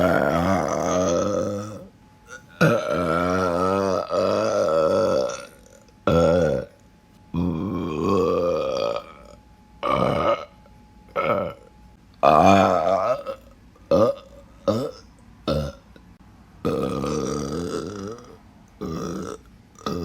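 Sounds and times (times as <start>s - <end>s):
person burping: 0.0s - 16.0s, 16.6s - 20.0s.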